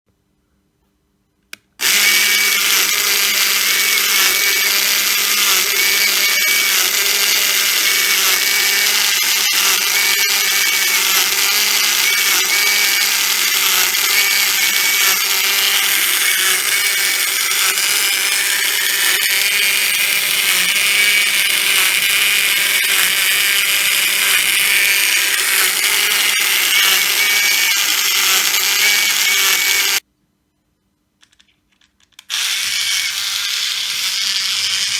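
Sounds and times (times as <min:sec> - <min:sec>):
toy train motor whirring: 0:01.5 - 0:30.0, 0:32.0 - 0:34.9.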